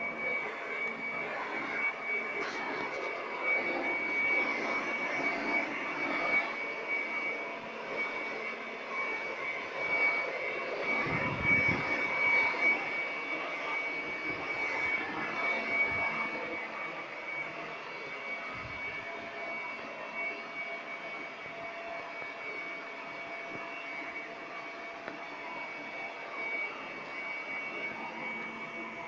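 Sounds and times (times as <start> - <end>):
electric air blower whining: 0.0 - 29.0.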